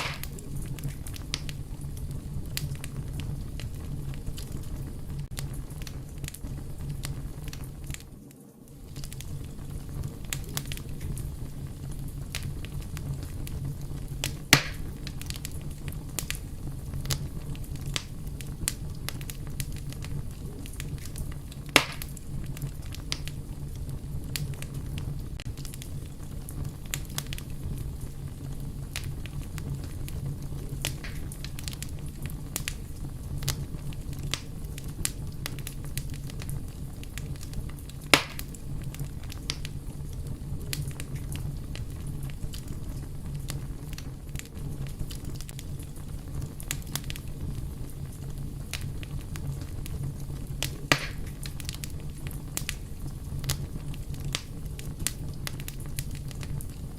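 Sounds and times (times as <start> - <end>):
sharp fire pops: 0.0 - 56.9
wood fire crackling: 0.0 - 56.9.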